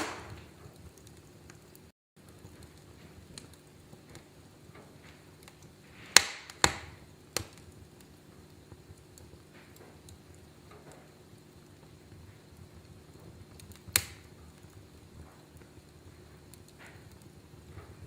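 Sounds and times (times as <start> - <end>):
sharp fire pops: 0.0 - 18.0
wood fire crackling: 0.0 - 18.0.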